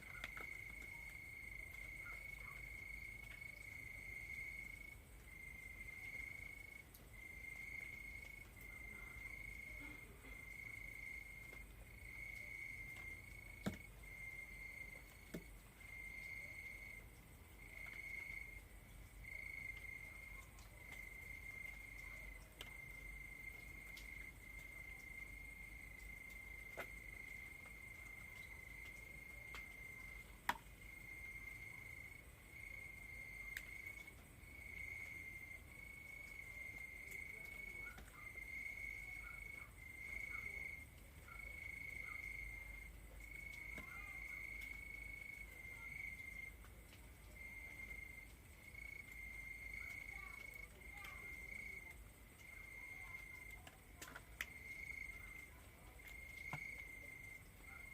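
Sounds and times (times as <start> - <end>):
crickets trilling: 0.0 - 57.9.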